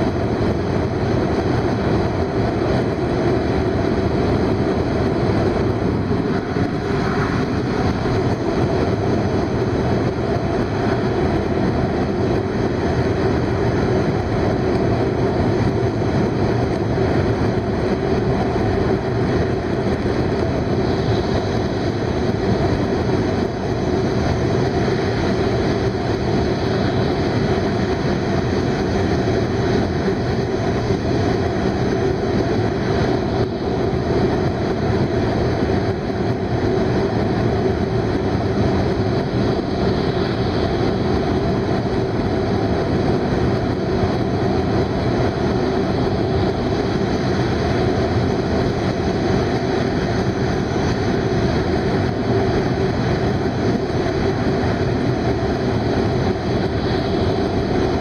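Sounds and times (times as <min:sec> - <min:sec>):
train running at speed: 0:00.0 - 0:58.0.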